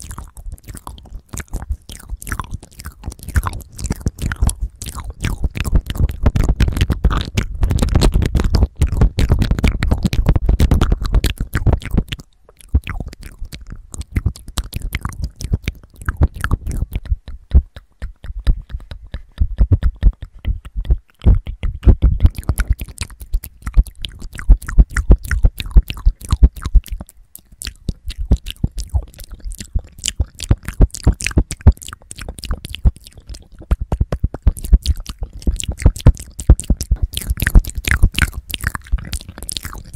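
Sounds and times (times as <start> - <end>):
wet mouth clicks: 0.0 - 39.9.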